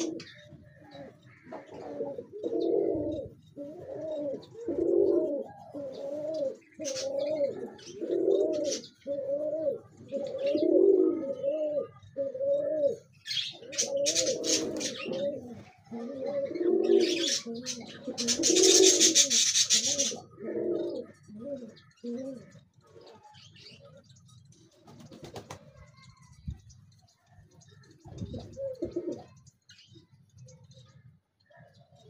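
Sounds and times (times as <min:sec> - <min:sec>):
pigeons cooing: 0:00.0 - 0:27.0, 0:27.6 - 0:32.0.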